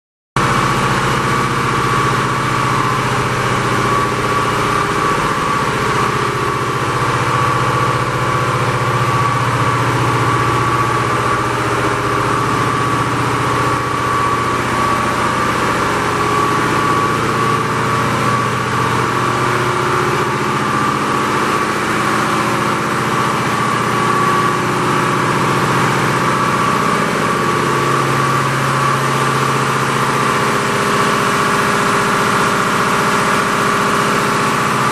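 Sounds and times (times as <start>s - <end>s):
high machinery whine: 0.4s - 34.9s
machinery low hum: 0.4s - 34.9s.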